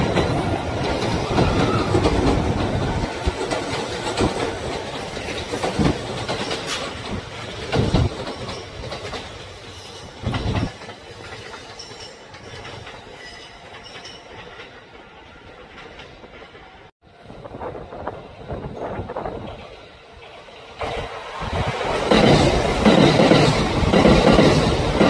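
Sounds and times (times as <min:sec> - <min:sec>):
train wheels clickety-clack: 0:00.0 - 0:16.9, 0:18.5 - 0:25.0.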